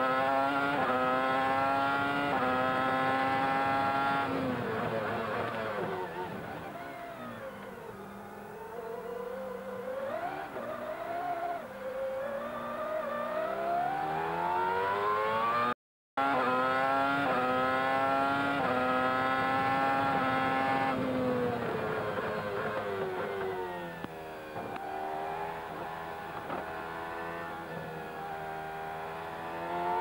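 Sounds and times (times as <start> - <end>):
quick gear upshifts: 0.0 - 30.0
racing car engine revving: 0.0 - 30.0.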